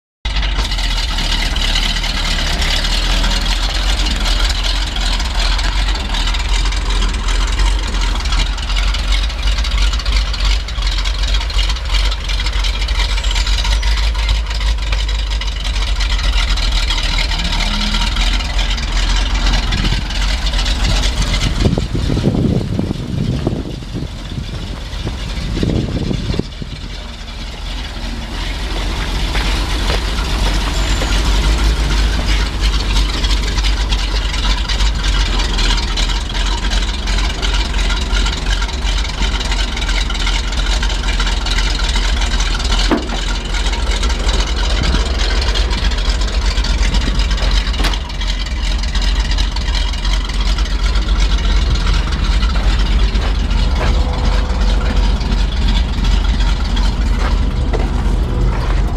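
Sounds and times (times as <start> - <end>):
truck engine rumbling: 0.2 - 58.9.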